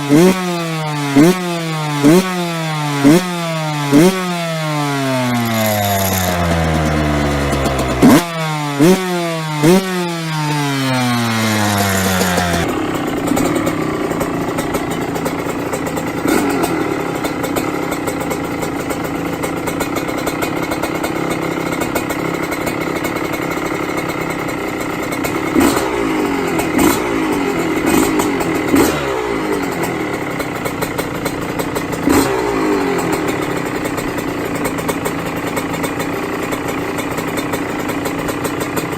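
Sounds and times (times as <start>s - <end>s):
two-stroke engine idling: 0.0s - 38.9s
two-stroke engine revving: 0.0s - 38.9s.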